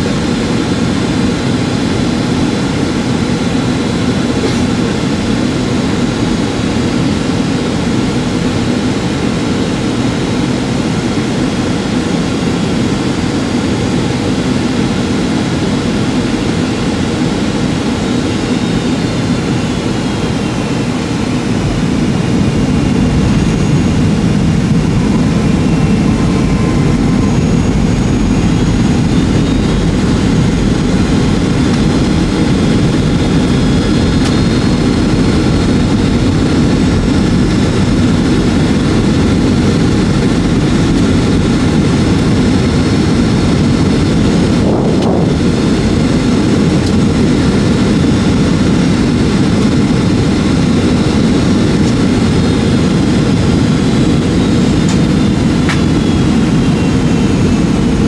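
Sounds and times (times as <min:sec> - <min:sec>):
jet engine cabin rumble: 0:00.0 - 0:58.0
faint high whine: 0:08.6 - 0:58.0.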